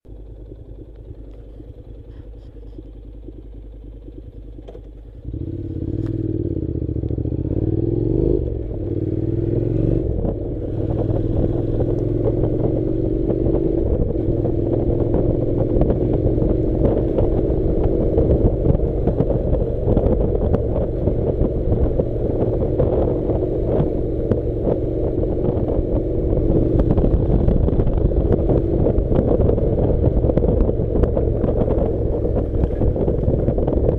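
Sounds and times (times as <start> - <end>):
motorcycle engine: 0.0 - 33.9.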